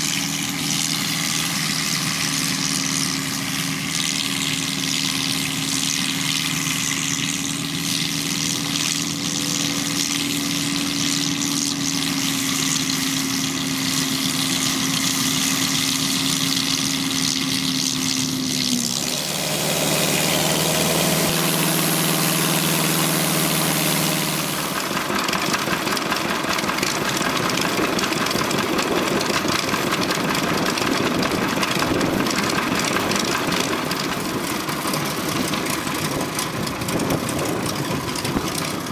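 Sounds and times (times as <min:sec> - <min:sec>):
combine harvester machinery running: 0:00.0 - 0:38.9
tractor engine: 0:00.0 - 0:38.9.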